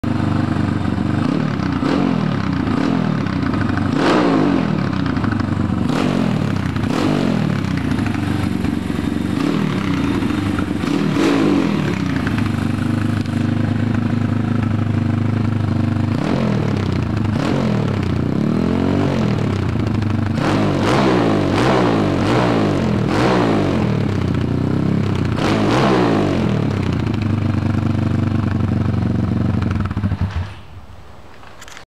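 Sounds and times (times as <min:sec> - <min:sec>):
motorbike engine idling and revving: 0:00.0 - 0:30.8.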